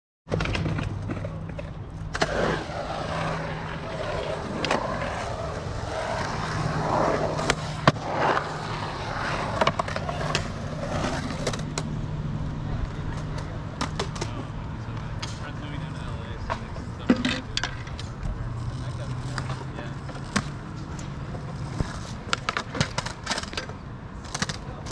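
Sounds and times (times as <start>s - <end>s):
skateboard clacks: 0.3s - 12.0s, 12.8s - 24.9s
skateboard wheels rumbling: 0.3s - 24.9s.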